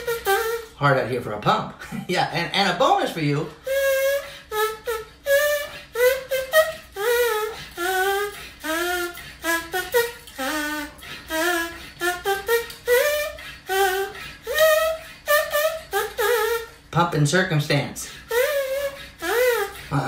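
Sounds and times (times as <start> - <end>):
person humming a tune: 0.0 - 0.8, 3.5 - 16.8, 18.0 - 20.0.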